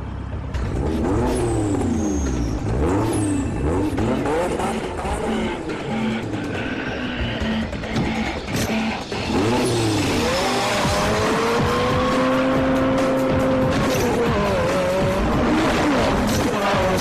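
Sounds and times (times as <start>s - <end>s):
film soundtrack music: 0.0s - 17.0s
racing car engines: 0.0s - 17.0s
tires squealing: 0.7s - 17.0s.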